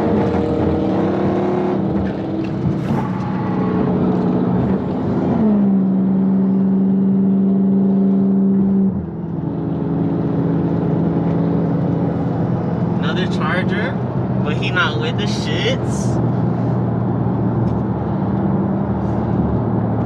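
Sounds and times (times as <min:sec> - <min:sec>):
car engine droning while cruising: 0:00.0 - 0:20.0.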